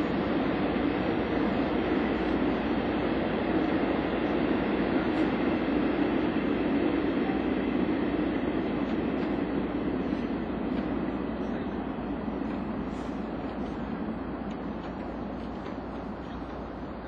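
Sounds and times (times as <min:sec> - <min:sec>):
locomotive rumbling: 0:00.0 - 0:17.0.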